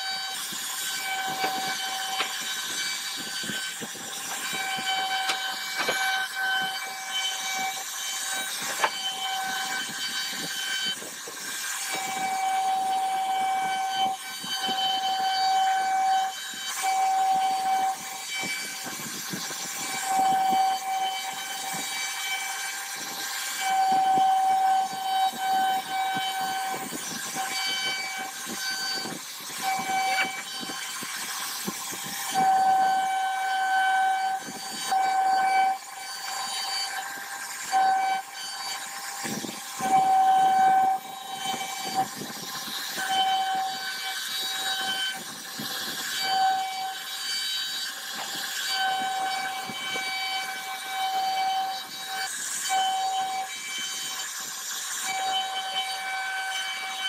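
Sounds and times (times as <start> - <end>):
router spindle whining: 0.0 - 57.0.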